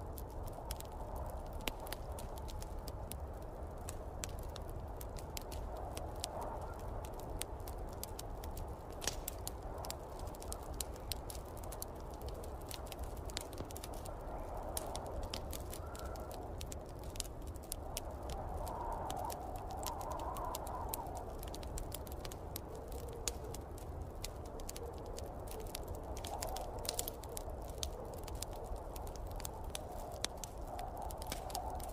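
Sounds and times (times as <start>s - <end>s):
snowstorm wind rumbling: 0.0s - 31.9s
wood fire crackling: 0.0s - 31.9s.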